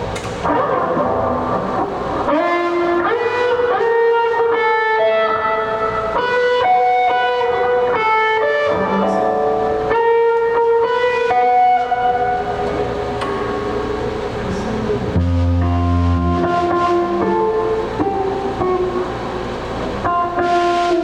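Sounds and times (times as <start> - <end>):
electric guitar melody: 0.0 - 21.0.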